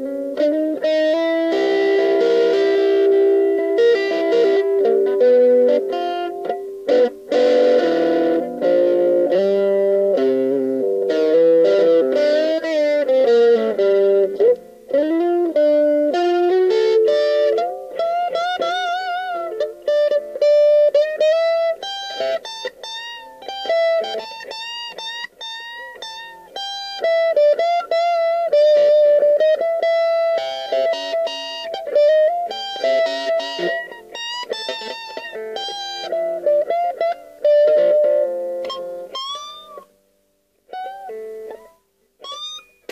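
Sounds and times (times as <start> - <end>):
electric guitar riffs: 0.0 - 42.9.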